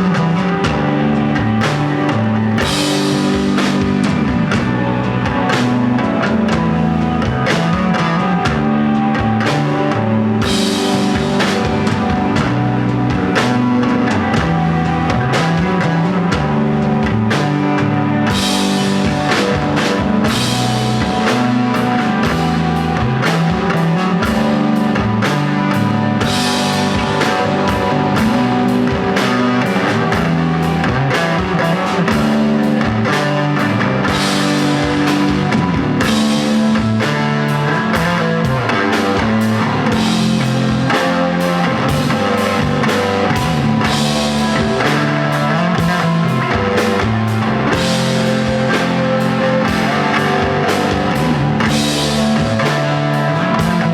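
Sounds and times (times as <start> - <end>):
bass guitar: 0.0 - 53.9
drum kit with cymbals: 0.0 - 53.9
electric guitar: 0.0 - 53.9.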